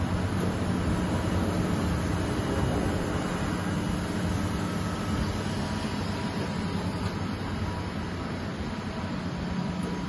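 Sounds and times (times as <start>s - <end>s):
low machinery drone: 0.0s - 10.0s.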